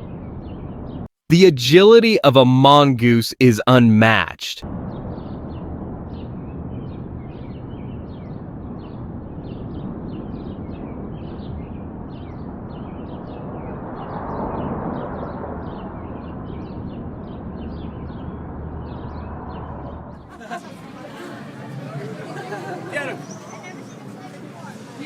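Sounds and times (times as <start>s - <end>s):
outdoor background noise: 1.4s - 25.0s.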